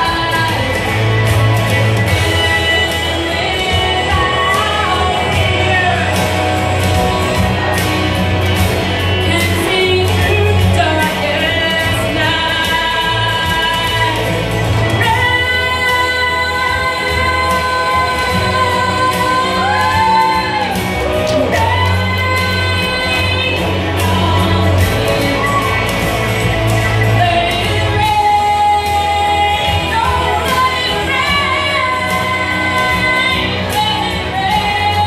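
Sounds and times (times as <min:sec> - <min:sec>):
instrumental backing with bass line: 0:00.0 - 0:35.0
woman singing into a microphone: 0:00.0 - 0:35.0.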